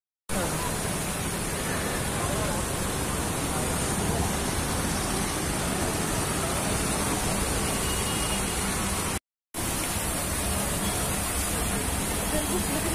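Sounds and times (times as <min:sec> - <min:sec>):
fountain water cascading: 0:00.3 - 0:12.9.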